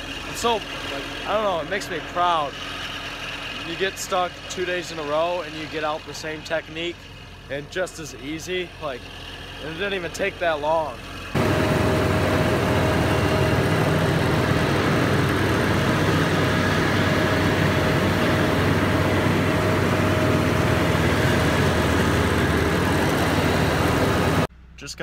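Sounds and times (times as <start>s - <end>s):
lawn mower engine running: 0.0s - 24.5s.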